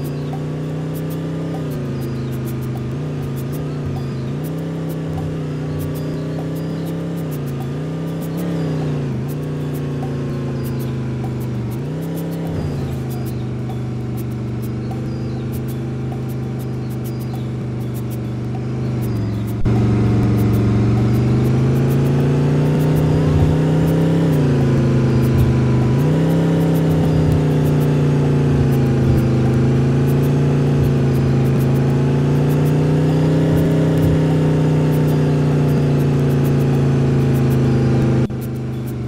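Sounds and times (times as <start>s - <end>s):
bus engine running hard: 0.0s - 39.0s
faint ticking rattles: 0.0s - 39.0s.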